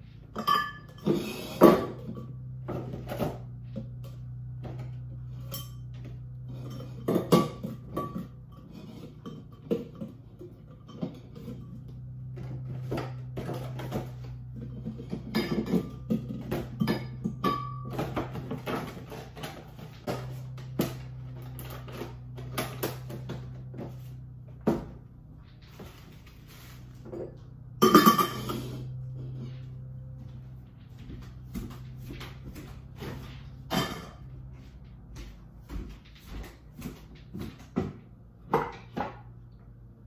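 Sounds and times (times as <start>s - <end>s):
steady low hum: 0.0s - 40.0s
lemons and glassware clinking: 0.1s - 25.0s, 26.9s - 34.9s.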